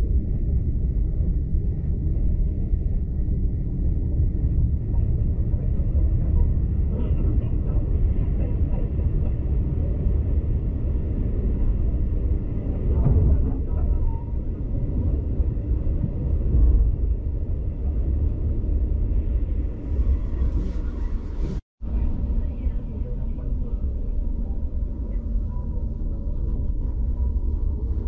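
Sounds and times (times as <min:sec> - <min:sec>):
train carriage rumbling on track: 0:00.0 - 0:28.0.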